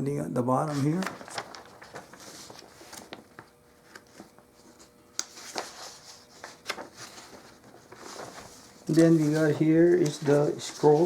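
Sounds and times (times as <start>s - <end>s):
faint steady hum: 0.0s - 11.0s
soft rustles: 0.7s - 11.0s.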